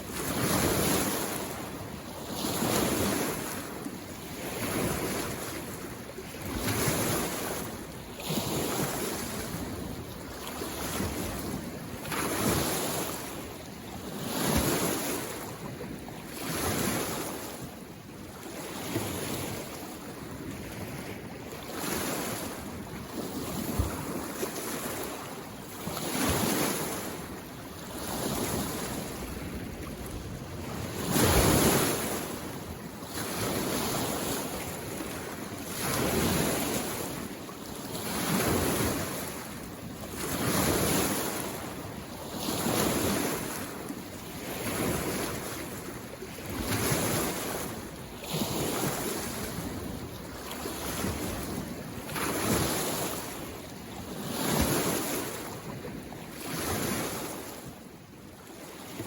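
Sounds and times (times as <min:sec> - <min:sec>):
lake waves washing on shore: 0:00.0 - 0:59.0.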